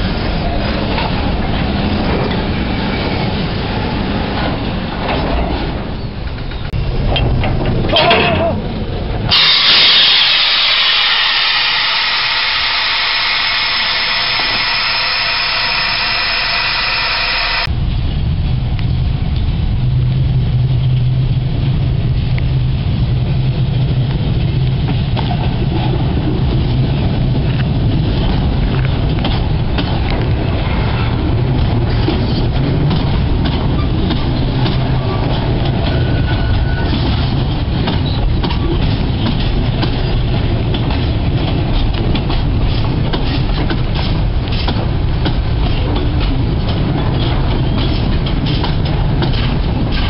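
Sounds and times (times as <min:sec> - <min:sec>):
diesel locomotive engine drone: 0:00.0 - 0:50.0
freight train rolling: 0:00.0 - 0:50.0
rumble of wheels on rail: 0:00.0 - 0:50.0.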